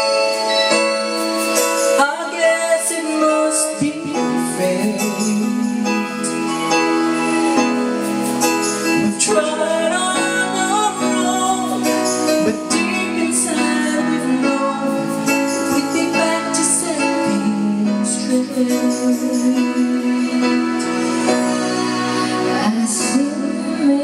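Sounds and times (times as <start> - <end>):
person singing: 0.0 - 7.7, 8.3 - 24.0.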